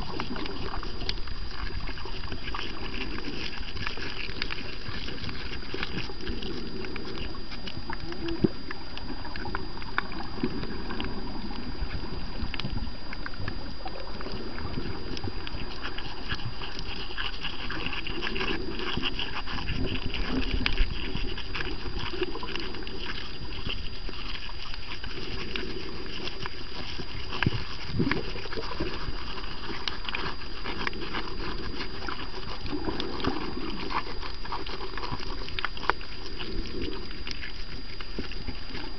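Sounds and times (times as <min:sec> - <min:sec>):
bubbling gurgles: 0:00.0 - 0:38.9.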